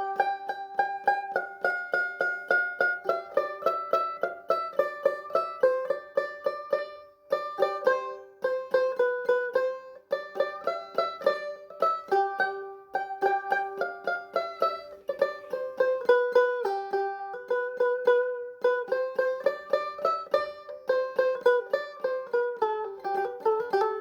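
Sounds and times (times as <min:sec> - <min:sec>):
plucked string instrument melody: 0:00.0 - 0:24.0.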